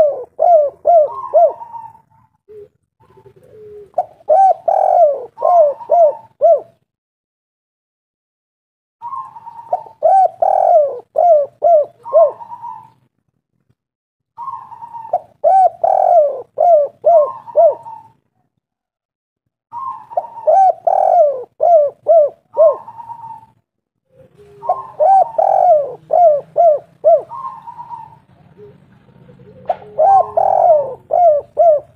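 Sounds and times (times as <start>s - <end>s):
dove cooing: 0.0s - 6.9s, 9.0s - 13.1s, 14.4s - 18.5s, 19.7s - 31.9s.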